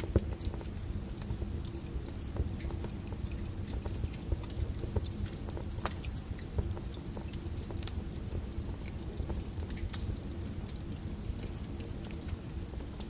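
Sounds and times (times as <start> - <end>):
burning logs crackling and popping: 0.0 - 13.0
low rumble of flames: 0.0 - 13.0.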